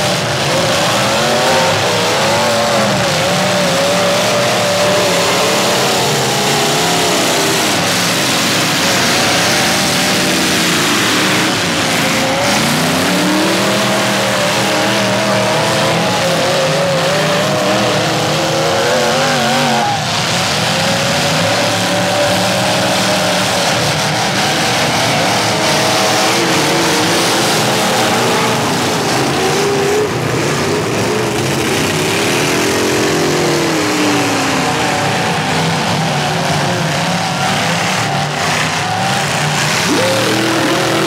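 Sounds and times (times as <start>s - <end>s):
arena noise: 0.0s - 41.0s
car engines revving: 0.0s - 41.0s.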